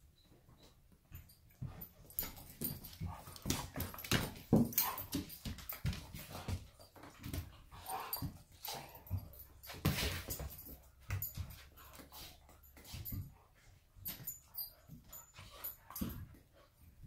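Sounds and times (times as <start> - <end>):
paws scuffling on hardwood floor: 0.4 - 17.0.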